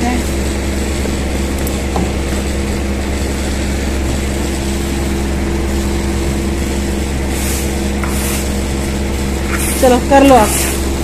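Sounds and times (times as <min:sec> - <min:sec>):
air cooler fan humming: 0:00.0 - 0:11.0.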